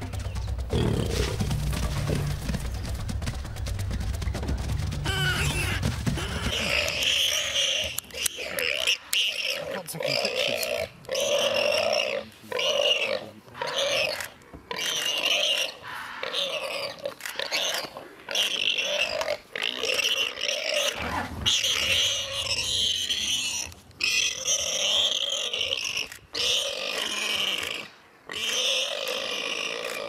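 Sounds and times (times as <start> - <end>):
warthog squealing in distress: 5.1 - 30.0.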